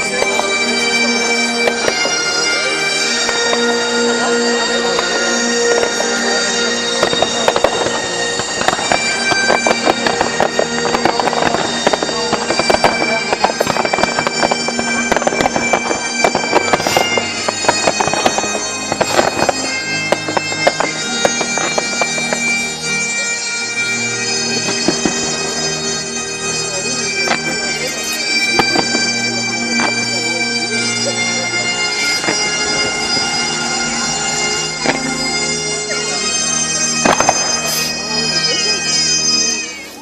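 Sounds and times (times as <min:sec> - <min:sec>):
bagpipe music with drones: 0:00.0 - 0:40.0
fireworks bangs and crackles: 0:00.0 - 0:40.0.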